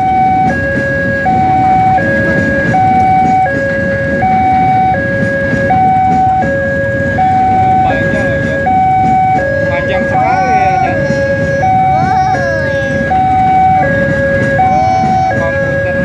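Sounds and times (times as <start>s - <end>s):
electric train rumbling past: 0.0s - 16.0s
two-tone level crossing alarm: 0.0s - 16.0s.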